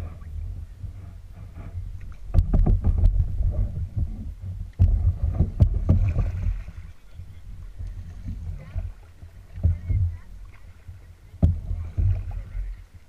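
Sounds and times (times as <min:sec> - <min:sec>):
paddle splashing in water: 0:00.0 - 0:13.0
steady low rumble: 0:00.0 - 0:13.0.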